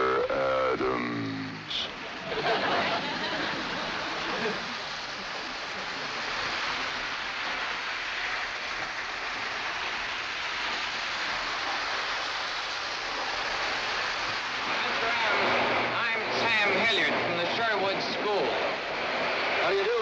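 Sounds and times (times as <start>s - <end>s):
model trains running: 0.0s - 20.0s.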